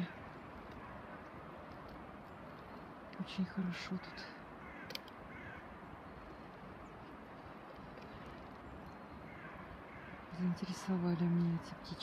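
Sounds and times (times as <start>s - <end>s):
faint bird calls: 0.0s - 10.9s
outdoor background hiss: 0.0s - 12.0s.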